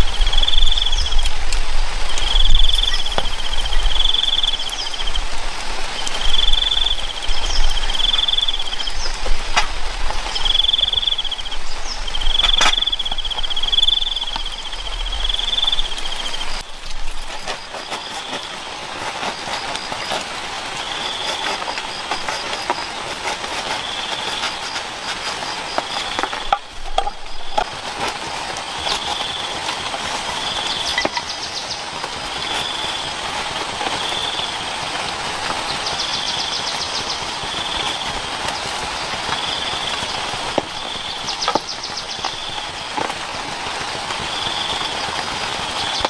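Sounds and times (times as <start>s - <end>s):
insects trilling: 0.0s - 46.0s
steady hiss: 0.0s - 46.0s.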